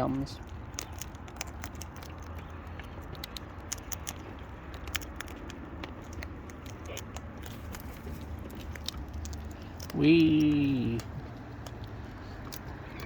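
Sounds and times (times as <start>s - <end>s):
beaks cracking seed: 0.3s - 13.0s.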